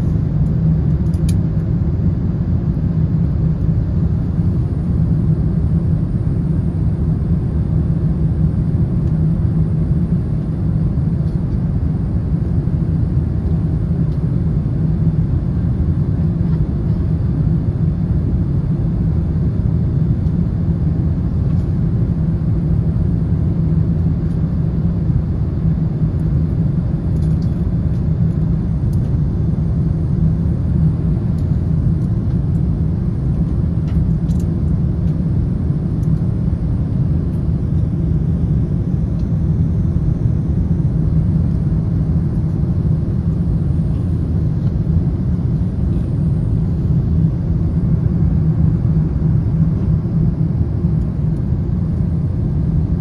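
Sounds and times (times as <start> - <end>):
jet airliner cabin rumble: 0.0 - 53.0.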